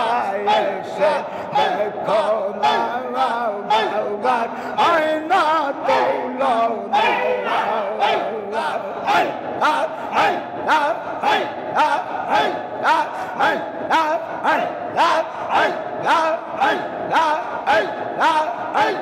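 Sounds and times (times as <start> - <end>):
amplified lead voice: 0.0 - 19.0
men chanting together: 0.0 - 19.0.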